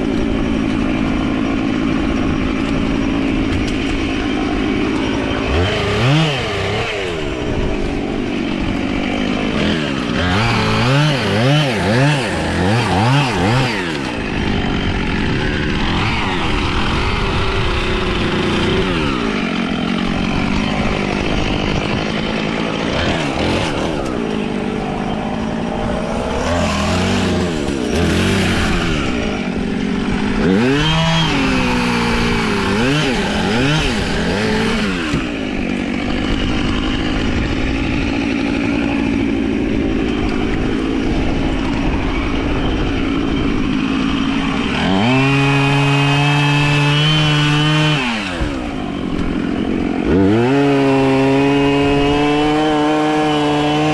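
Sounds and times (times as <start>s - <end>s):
chainsaw engine revving: 0.0s - 53.9s.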